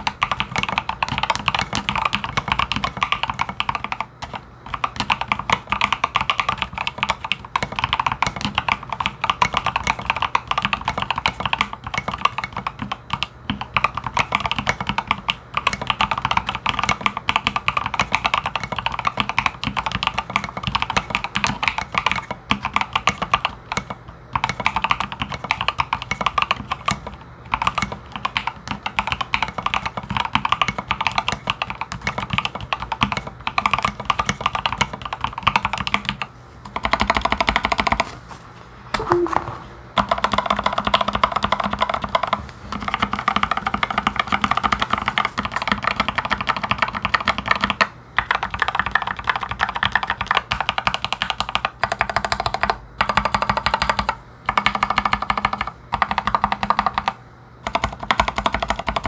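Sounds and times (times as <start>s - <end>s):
fast mechanical keyboard typing: 0.0s - 38.1s, 40.0s - 59.0s.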